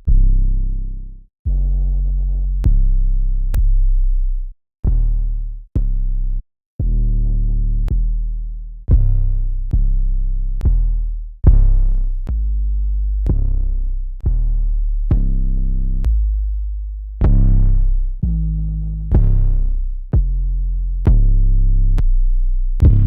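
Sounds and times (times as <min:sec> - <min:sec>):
distorted deep bass notes: 0:00.0 - 0:23.0.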